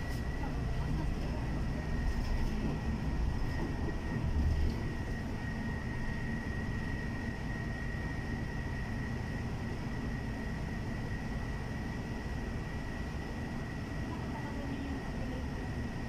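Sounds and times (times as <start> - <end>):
bus engine and road rumble: 0.0 - 16.0
high whine: 0.0 - 16.0.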